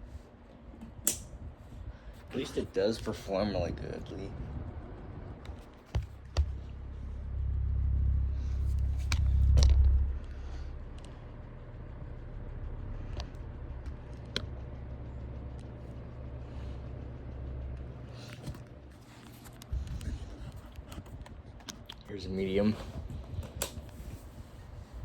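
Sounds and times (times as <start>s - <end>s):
table fan humming: 0.0s - 25.0s.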